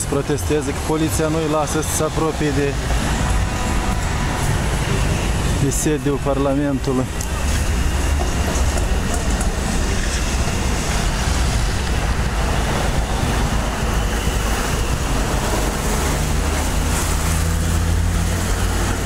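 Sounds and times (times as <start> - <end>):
street traffic noise: 0.0 - 19.0
wind rumbling on microphone: 0.0 - 19.0.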